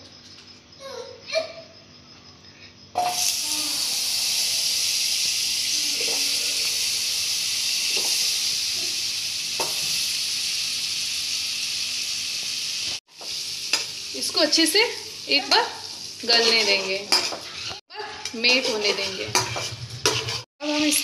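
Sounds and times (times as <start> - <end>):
butter sizzling in a pan: 3.0 - 17.8, 18.4 - 21.0.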